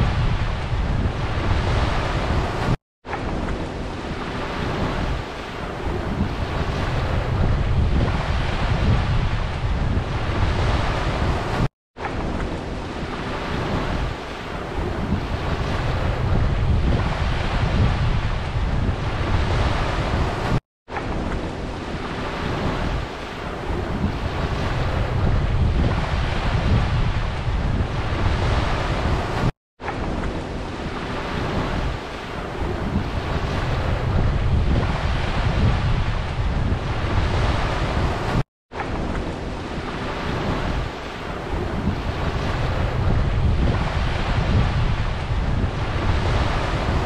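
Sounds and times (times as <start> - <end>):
small waves washing on beach: 0.0 - 47.0
wind rumbling on microphone: 0.0 - 47.0.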